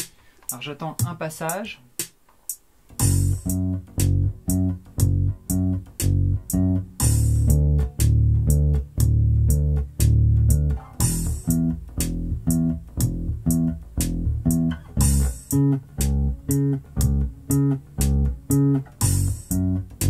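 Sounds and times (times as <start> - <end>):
slow drum loop: 0.0 - 20.0
electric bass line: 3.0 - 20.0.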